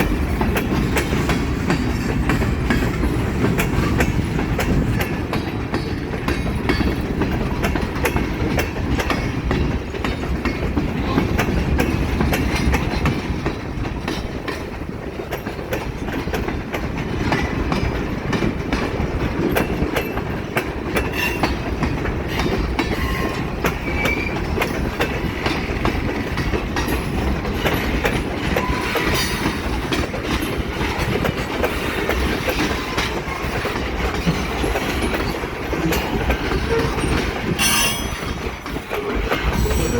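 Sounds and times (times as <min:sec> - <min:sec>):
train rumbling past: 0:00.0 - 0:39.9
wheels clicking over rail joints: 0:00.0 - 0:39.9.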